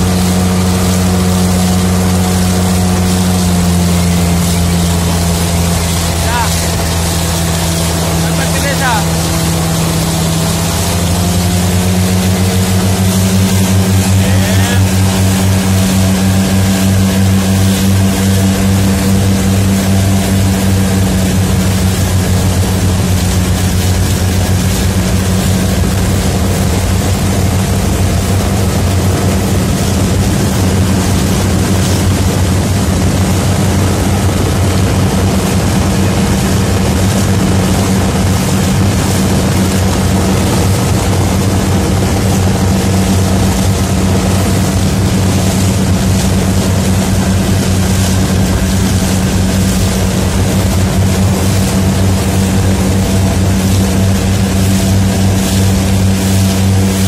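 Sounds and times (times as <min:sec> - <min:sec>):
outboard motor running: 0:00.0 - 0:57.0
water rushing: 0:00.0 - 0:57.0
wind rushing: 0:04.0 - 0:57.0.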